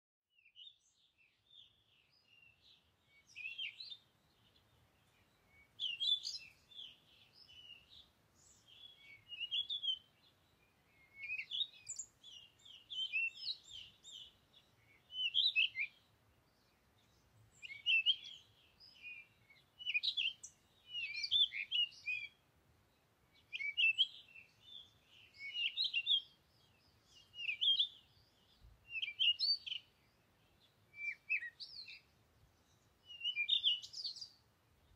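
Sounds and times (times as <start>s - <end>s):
small bird chirping: 0.3s - 22.4s, 23.4s - 34.9s.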